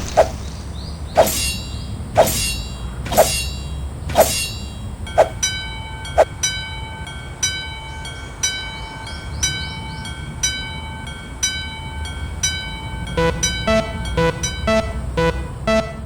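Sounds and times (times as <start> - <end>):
level crossing warning bell: 1.4 - 16.0.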